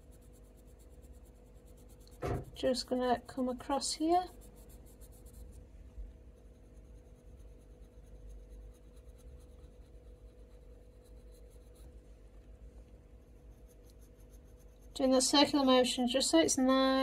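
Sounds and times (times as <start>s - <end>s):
pencil scratching on paper: 0.0s - 5.6s, 6.3s - 12.0s, 13.2s - 15.6s
faint steady hum: 0.0s - 17.0s.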